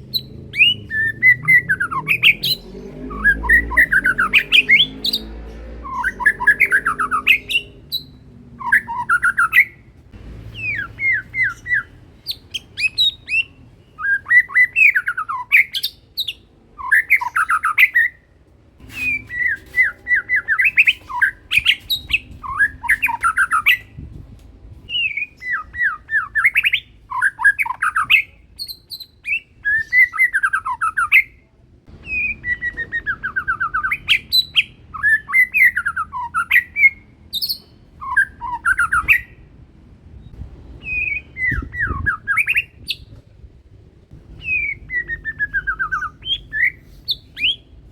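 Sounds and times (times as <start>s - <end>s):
songbird singing whistles: 0.0s - 9.9s, 10.5s - 24.0s, 24.9s - 39.5s, 40.2s - 43.2s, 44.4s - 47.7s.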